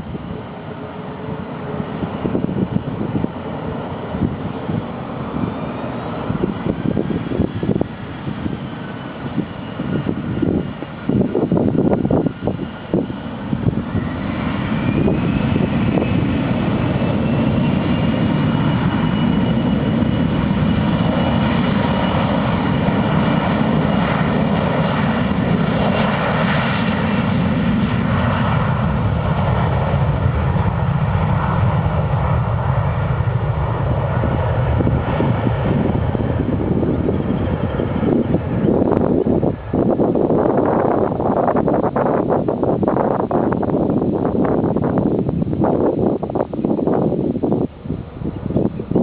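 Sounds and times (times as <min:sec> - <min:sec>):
jet engine whine rising: 0:00.0 - 0:49.0
jet engines roaring: 0:00.0 - 0:49.0.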